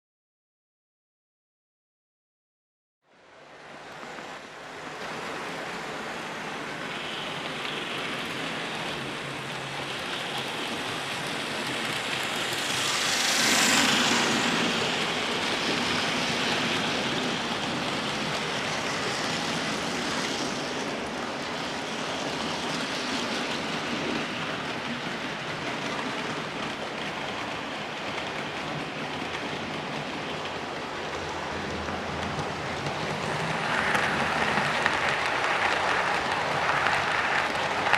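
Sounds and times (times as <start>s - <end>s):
model train running on track: 3.2s - 37.9s.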